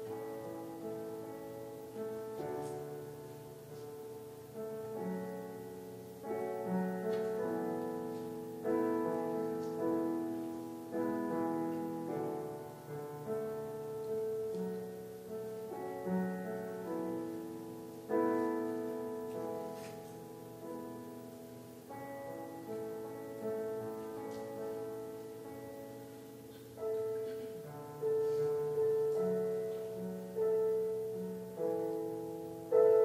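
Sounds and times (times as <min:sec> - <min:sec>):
piano playing slow chords: 0:00.0 - 0:33.0.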